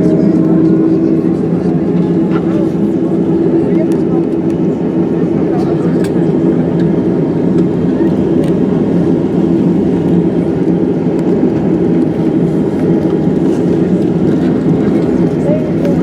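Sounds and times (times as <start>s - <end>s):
jet engine roar in cabin: 0.0s - 16.0s.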